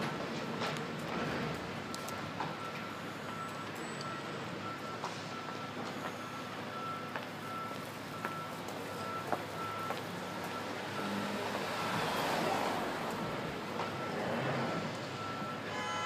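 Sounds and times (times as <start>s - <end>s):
city traffic hum: 0.0s - 16.0s
reversing alarm beeping: 1.8s - 16.0s.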